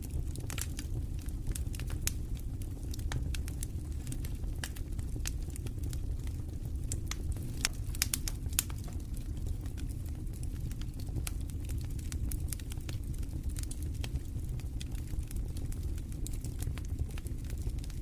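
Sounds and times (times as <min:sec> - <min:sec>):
campfire crackling and popping: 0:00.0 - 0:18.0
low rumble of wind: 0:00.0 - 0:18.0.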